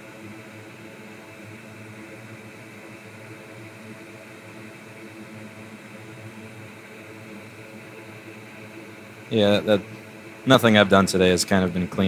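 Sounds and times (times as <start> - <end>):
faint hum: 0.0 - 12.0
small fan whirring: 0.0 - 12.0.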